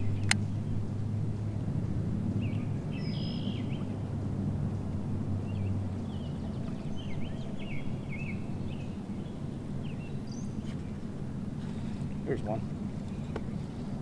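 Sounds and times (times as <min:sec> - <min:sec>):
songbirds chirping: 0:00.0 - 0:01.7, 0:02.3 - 0:14.0
steady low rumble: 0:00.0 - 0:14.0.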